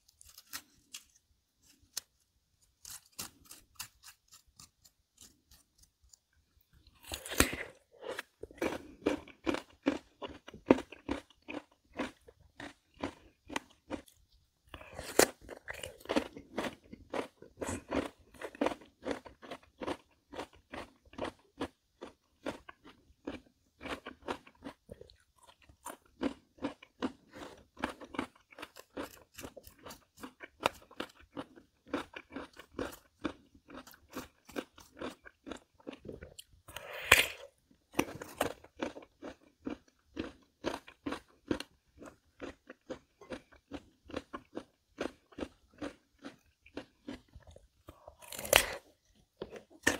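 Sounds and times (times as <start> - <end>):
crunchy chewing: 0.0 - 2.1, 2.8 - 49.9.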